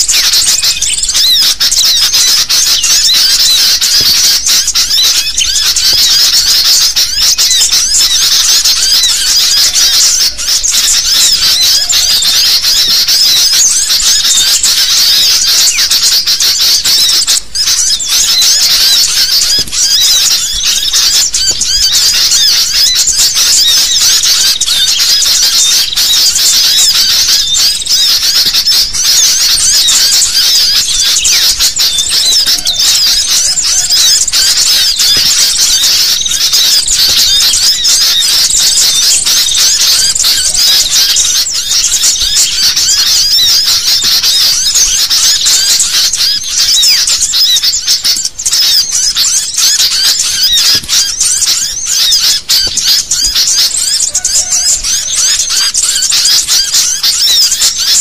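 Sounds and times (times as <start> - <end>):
flock of birds chattering: 0.0 - 58.0.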